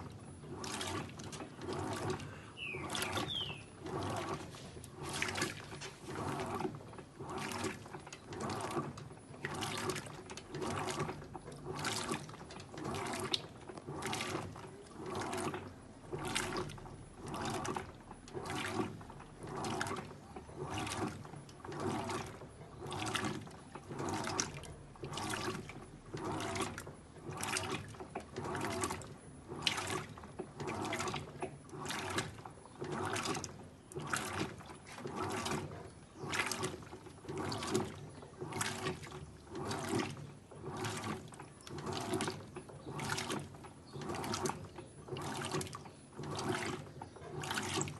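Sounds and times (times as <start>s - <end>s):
washing machine water sloshing: 0.0s - 47.9s.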